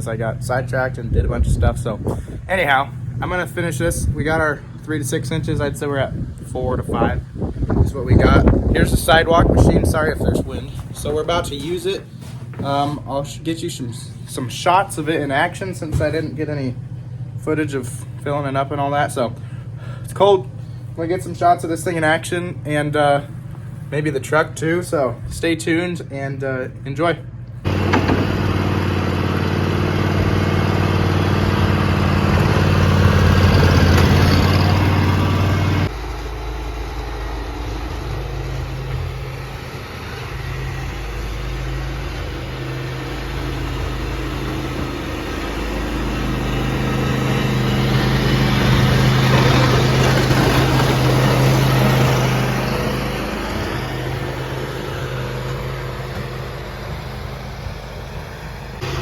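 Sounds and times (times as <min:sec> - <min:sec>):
loud engine: 0:00.0 - 0:59.0
quieter engine working: 0:00.0 - 0:59.0
snow-clearing engines humming: 0:00.0 - 0:59.0.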